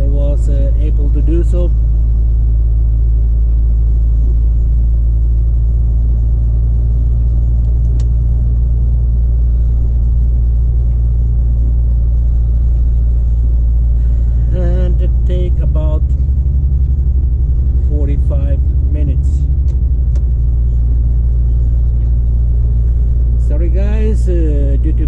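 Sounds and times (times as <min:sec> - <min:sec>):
road noise: 0:00.0 - 0:25.0
truck engine drone: 0:00.0 - 0:25.0.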